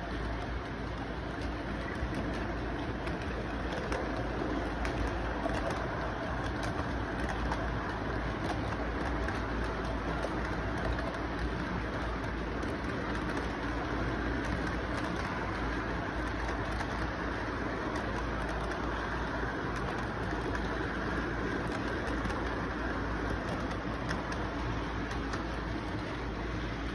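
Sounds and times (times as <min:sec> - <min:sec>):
model train rumbling: 0:00.0 - 0:26.9.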